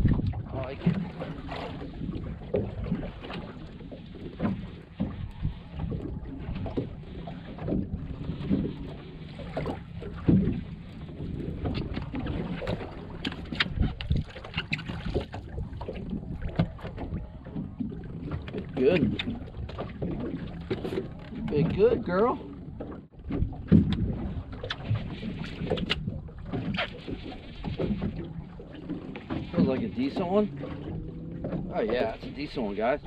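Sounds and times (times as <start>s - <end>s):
water slapping boat hull: 0.0s - 33.0s
wind on microphone: 0.0s - 33.0s.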